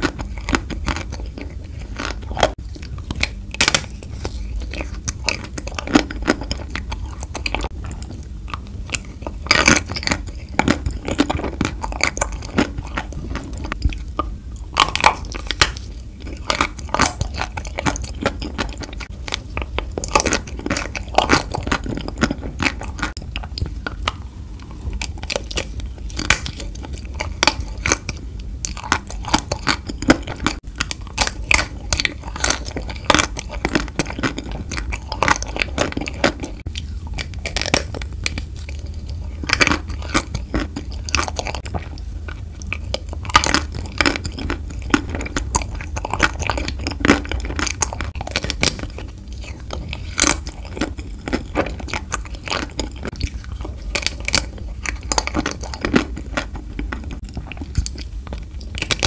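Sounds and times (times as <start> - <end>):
chocolate crunching: 0.0 - 59.0.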